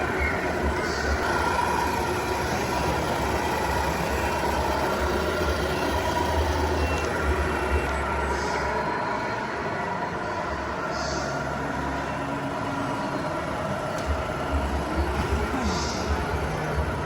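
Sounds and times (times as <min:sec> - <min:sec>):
faint constant whine: 0:00.0 - 0:17.0
toy truck motor droning: 0:00.0 - 0:17.0.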